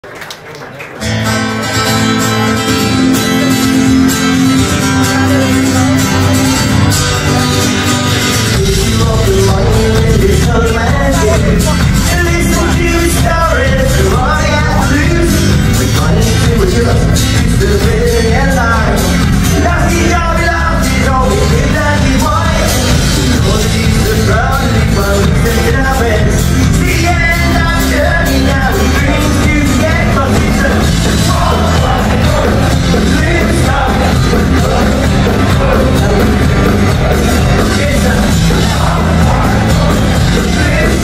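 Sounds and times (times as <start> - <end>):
electric guitars: 0.9 - 41.0
acoustic guitar strumming: 1.0 - 41.0
drums: 1.2 - 41.0.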